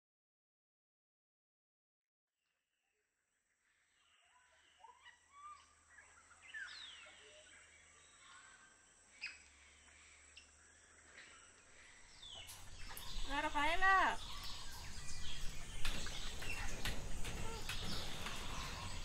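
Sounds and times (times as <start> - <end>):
bird chirps: 3.6 - 19.0.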